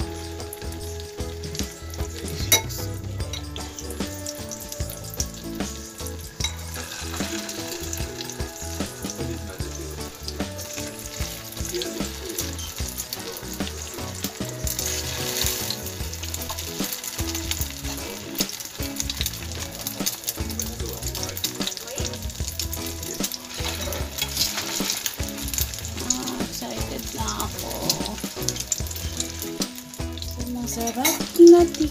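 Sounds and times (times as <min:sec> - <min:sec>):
food sizzling in hot oil: 0:00.0 - 0:31.9.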